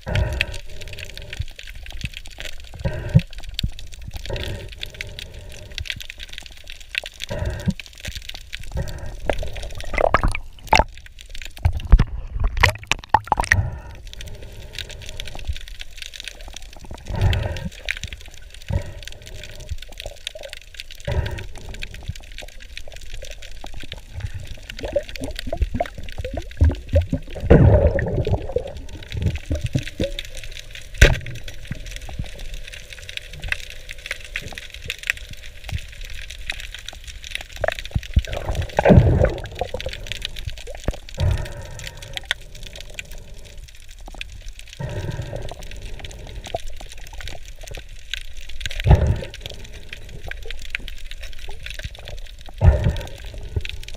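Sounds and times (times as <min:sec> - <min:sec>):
water sloshing underwater: 0:00.0 - 0:53.9.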